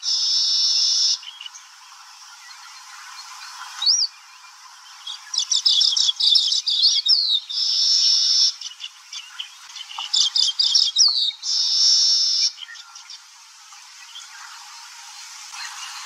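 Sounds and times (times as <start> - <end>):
weaver birds chattering chirps: 0.0 - 16.0.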